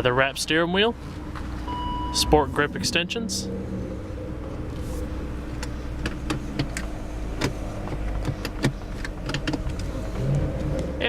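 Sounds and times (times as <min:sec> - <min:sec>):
car engine idling: 0:00.7 - 0:10.1.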